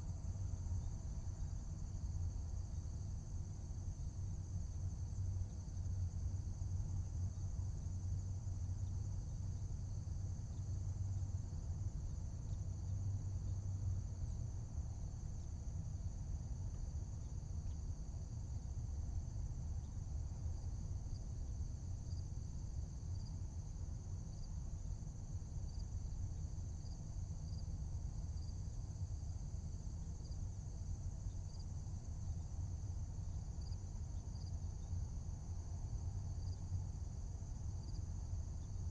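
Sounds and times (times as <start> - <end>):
low steady rumble: 0.0 - 38.9.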